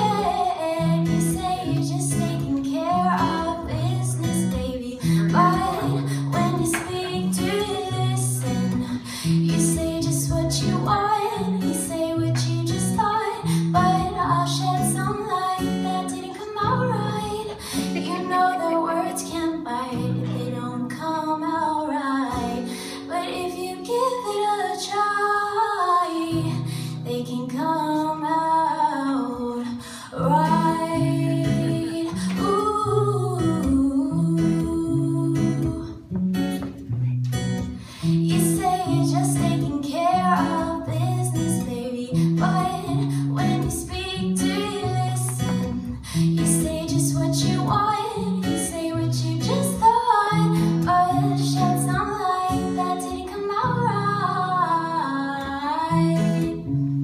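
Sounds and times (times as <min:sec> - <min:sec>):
woman singing: 0:00.0 - 0:36.2, 0:38.0 - 0:56.8
acoustic guitar: 0:00.0 - 0:57.0.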